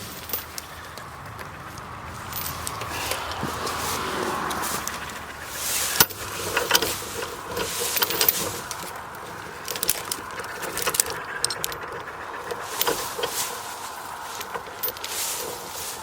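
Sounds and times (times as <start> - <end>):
metal chain clinking: 0.0 - 16.0
twigs snapping underfoot: 0.3 - 16.0.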